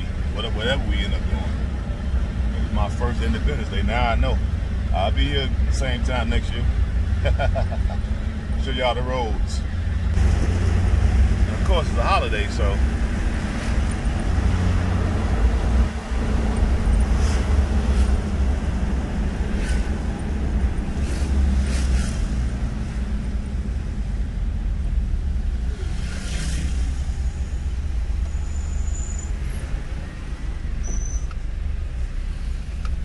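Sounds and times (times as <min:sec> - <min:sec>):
road and engine rumble inside car: 0:00.0 - 0:33.0.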